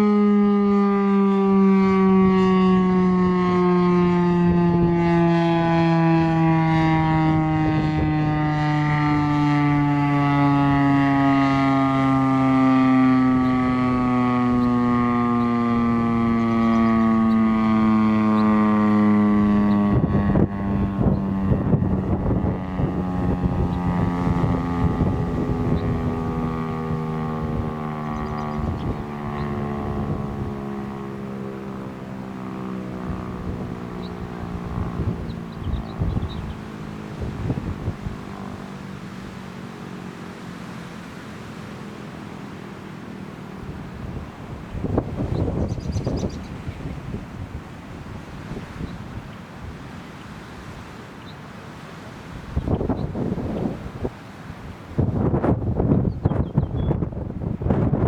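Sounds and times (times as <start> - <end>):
outdoor warning siren wailing: 0.0 - 58.0
wind buffeting microphone: 0.1 - 40.1, 43.4 - 51.3, 52.2 - 58.0.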